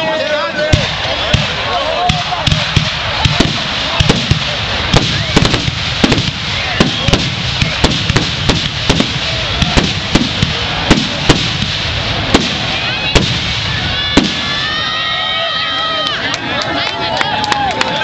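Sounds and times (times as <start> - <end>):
continuous hiss: 0.0 - 16.7
fireworks bangs: 0.1 - 16.2.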